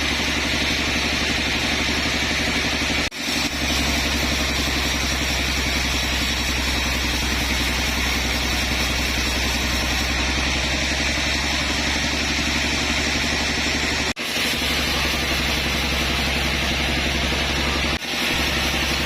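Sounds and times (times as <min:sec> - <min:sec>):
sawmill machinery droning: 0:00.0 - 0:19.0.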